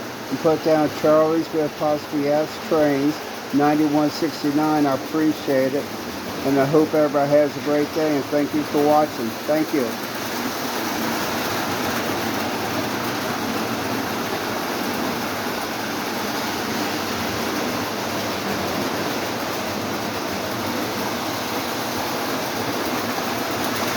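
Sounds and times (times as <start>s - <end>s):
model trains rumbling on track: 0.0s - 23.9s.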